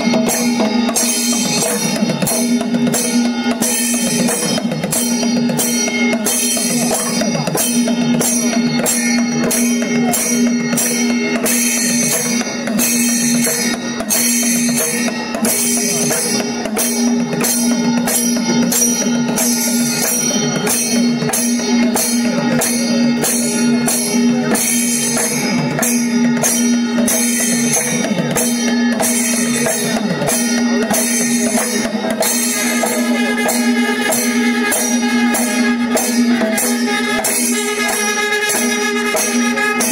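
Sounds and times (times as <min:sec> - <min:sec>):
cymbals clashing: 0:00.0 - 0:39.9
drums beaten loudly: 0:00.0 - 0:39.9
held tone: 0:00.0 - 0:39.9.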